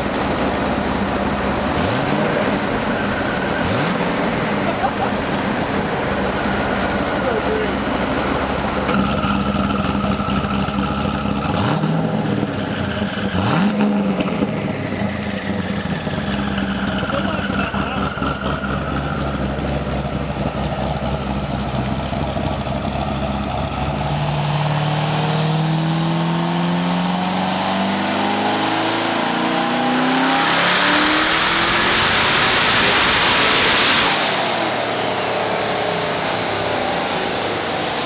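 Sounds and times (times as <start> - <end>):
car engine dyno pull: 0.0 - 38.0.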